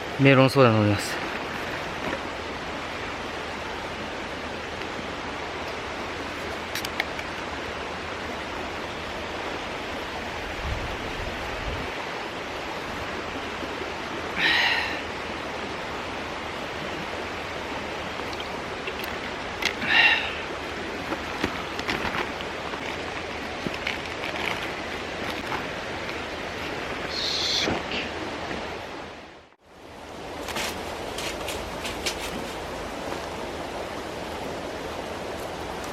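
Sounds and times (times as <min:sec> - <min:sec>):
stream rushing: 0:00.0 - 0:35.9.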